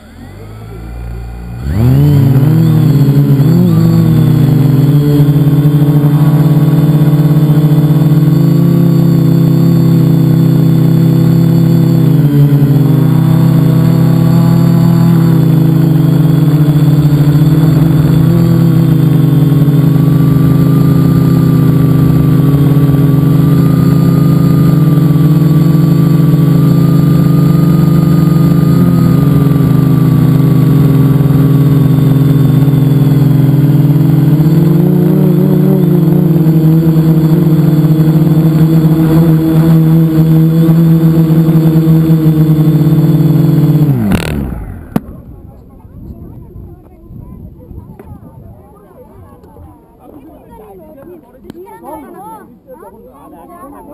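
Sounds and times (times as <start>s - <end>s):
drone propellers buzzing: 0.0s - 45.6s.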